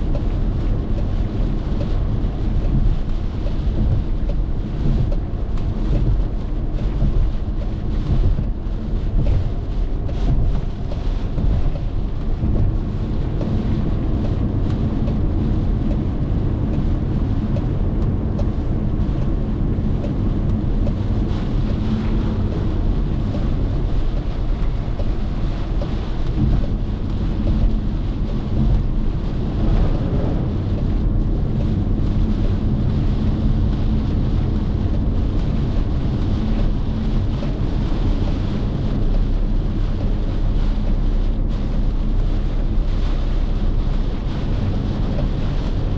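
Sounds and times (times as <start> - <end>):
car engine: 0.0 - 45.9
tyres rumbling on wet road: 0.0 - 45.9
wind buffeting microphone: 0.0 - 45.9.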